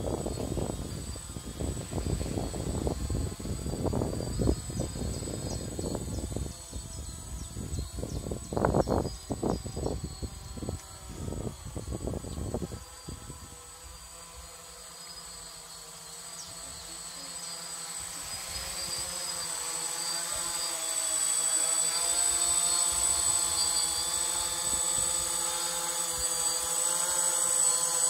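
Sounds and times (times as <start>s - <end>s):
drone propellers buzzing: 0.0s - 28.0s.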